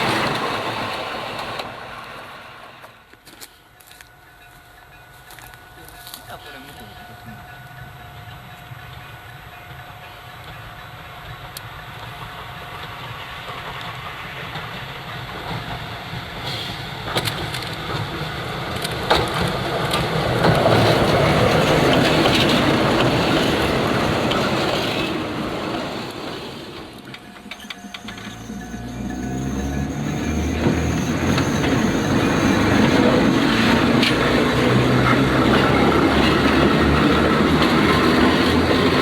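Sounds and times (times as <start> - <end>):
wheels clicking over rails: 0.0 - 3.5, 8.2 - 39.0
electric train passing: 0.0 - 39.0.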